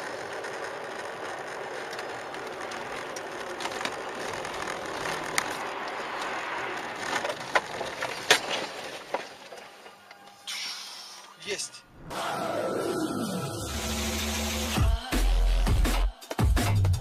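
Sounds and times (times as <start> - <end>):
vehicle and road noise: 0.0 - 14.8.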